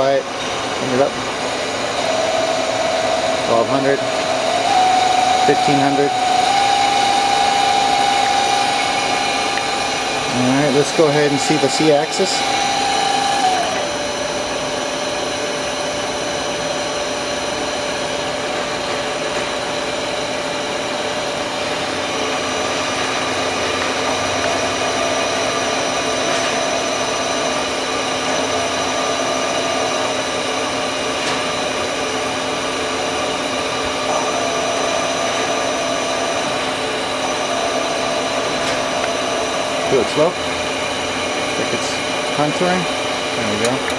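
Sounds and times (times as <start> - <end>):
machine electric drive whine: 0.0 - 43.9.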